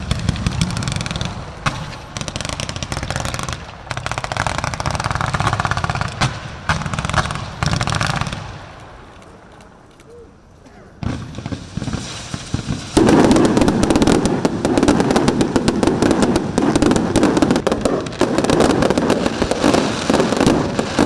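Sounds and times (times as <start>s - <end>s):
fireworks sharp bangs: 0.0s - 9.8s, 10.7s - 21.0s
fireworks crackling pops: 0.0s - 21.0s.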